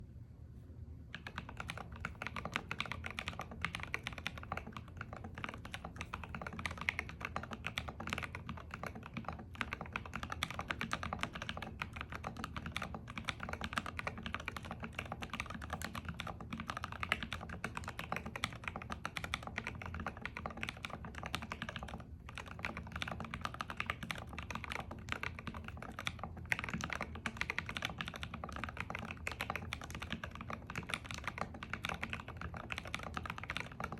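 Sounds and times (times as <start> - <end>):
mechanical keyboard typing: 1.1 - 33.9.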